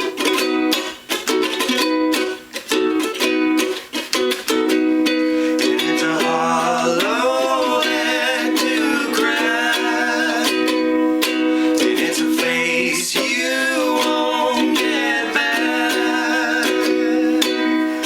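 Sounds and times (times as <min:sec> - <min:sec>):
ukulele strumming: 0:00.0 - 0:18.0.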